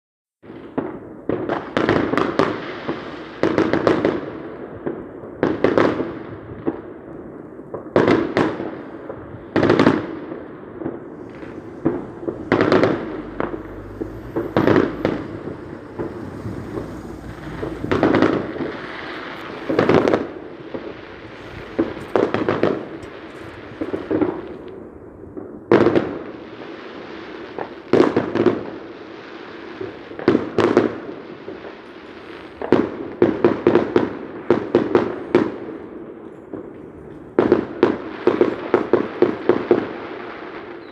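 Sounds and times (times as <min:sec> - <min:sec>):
fireworks bangs: 0:00.5 - 0:40.8.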